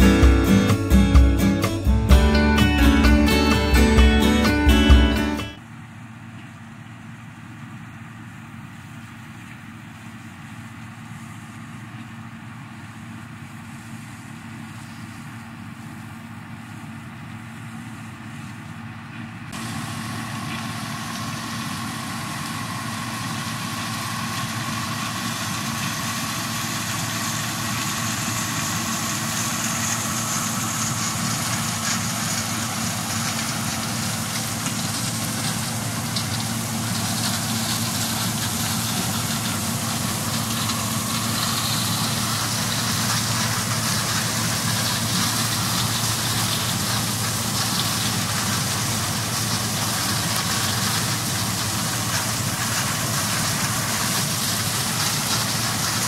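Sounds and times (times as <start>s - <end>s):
diesel engine drone: 0.0s - 56.0s
hiss of crop through harvester: 7.4s - 56.0s.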